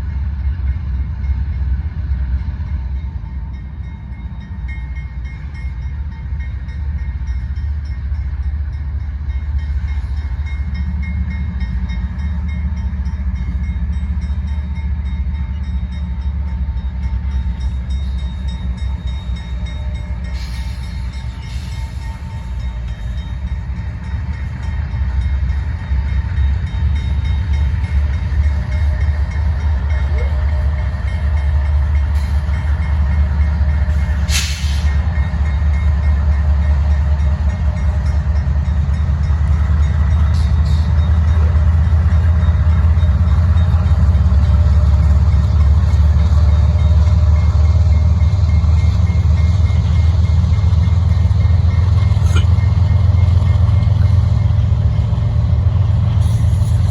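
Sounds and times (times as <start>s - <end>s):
train rumbling on rails: 0.0s - 56.9s.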